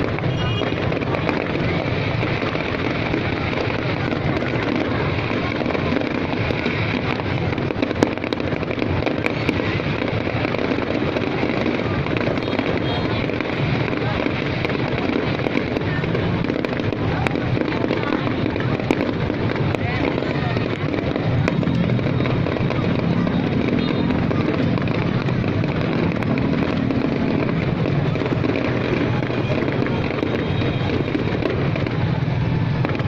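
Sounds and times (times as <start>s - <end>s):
crowd voices: 0.0s - 33.0s
fireworks going off: 0.0s - 33.0s.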